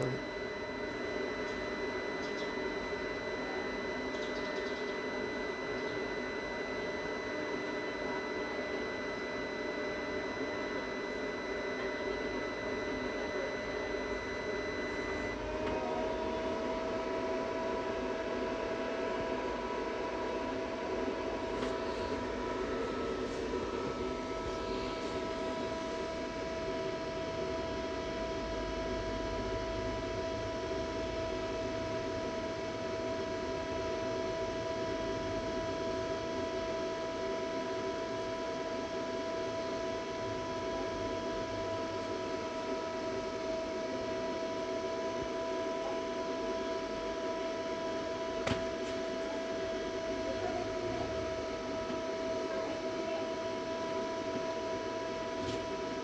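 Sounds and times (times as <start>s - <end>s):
charging equipment electrical hum: 0.0s - 56.0s.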